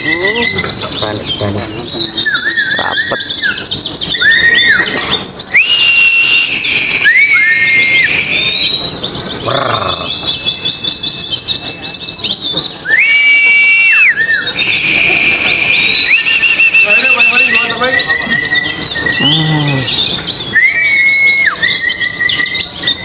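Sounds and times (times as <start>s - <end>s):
bird chattering trill: 0.0s - 23.0s
bird whistled notes: 0.0s - 23.0s.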